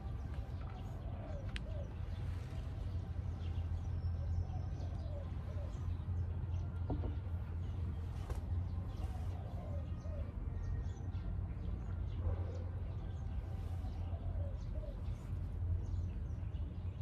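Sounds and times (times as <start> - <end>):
low curving bird calls: 0.0 - 17.0
steady low rumble: 0.0 - 17.0.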